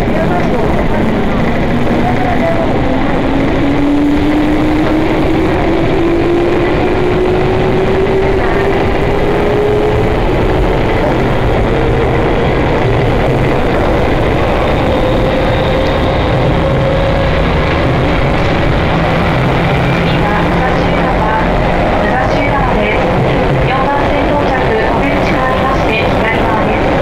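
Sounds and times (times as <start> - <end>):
electric train motor whining: 0.0 - 27.0
wheel and rail running noise: 0.0 - 27.0.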